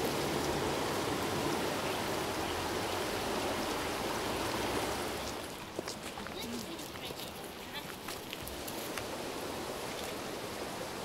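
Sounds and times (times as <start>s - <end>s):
creek water rushing over rocks: 0.0s - 11.0s.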